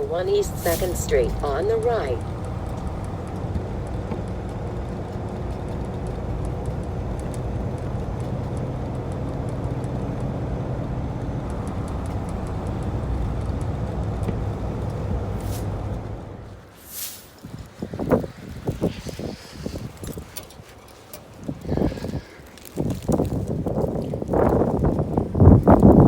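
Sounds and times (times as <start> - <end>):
truck engine and road drone: 0.0 - 26.0.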